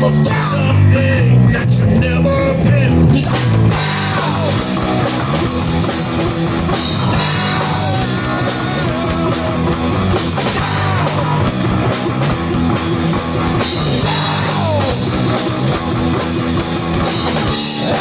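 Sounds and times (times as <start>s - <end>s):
live rock band instrumental: 0.0s - 18.0s.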